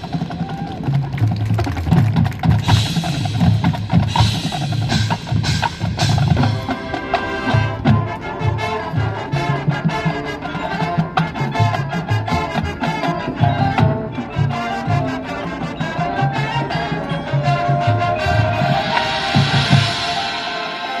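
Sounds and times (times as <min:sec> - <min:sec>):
marching band playing: 0:00.0 - 0:21.0
wind and brass chords: 0:02.6 - 0:21.0.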